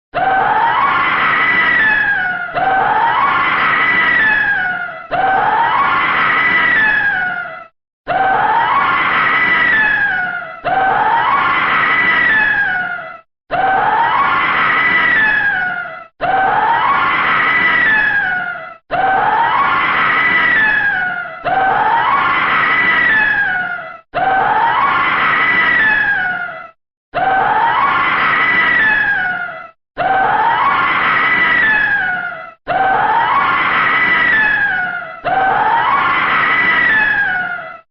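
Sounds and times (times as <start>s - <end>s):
woman screaming: 0.2s - 37.9s.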